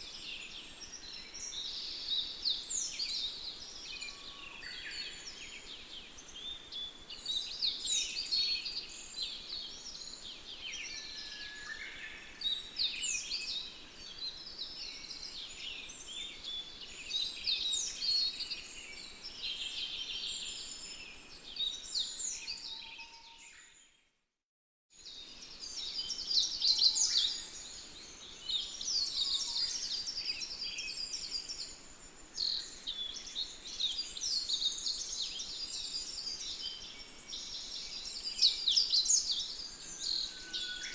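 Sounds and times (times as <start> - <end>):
small birds chirping in chorus: 0.0 - 24.0, 25.0 - 40.9.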